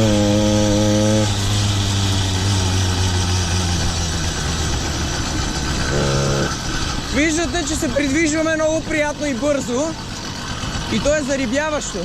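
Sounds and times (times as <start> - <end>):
small two-stroke engine running: 0.0 - 12.0
wind and road noise: 0.0 - 12.0.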